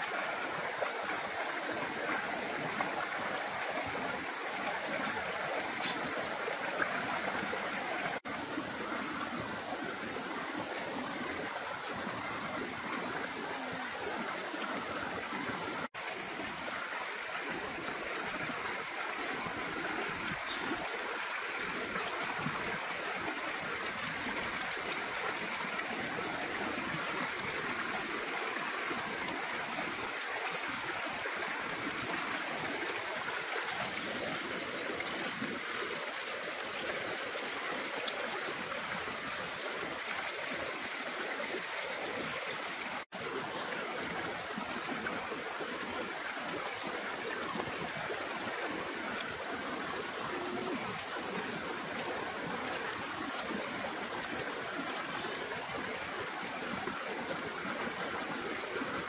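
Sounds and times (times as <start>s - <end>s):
trickling rushing water: 0.0s - 59.0s.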